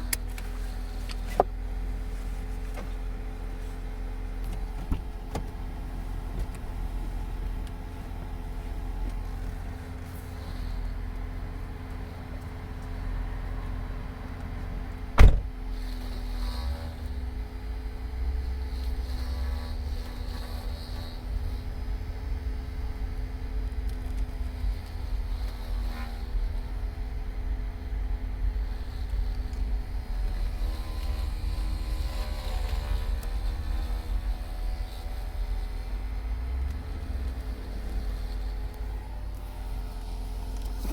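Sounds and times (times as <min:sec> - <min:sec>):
car engine rumble: 0:00.0 - 0:40.9
wavering whine from car: 0:00.0 - 0:40.9.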